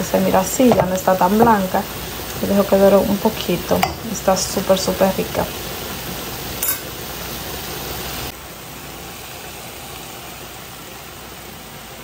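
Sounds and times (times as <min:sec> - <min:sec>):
chicken sizzling in a frying pan: 0:00.0 - 0:12.0.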